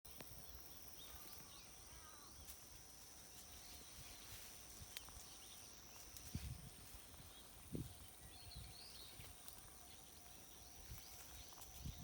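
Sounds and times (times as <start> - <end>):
soft bird chirps: 0.1 - 12.0.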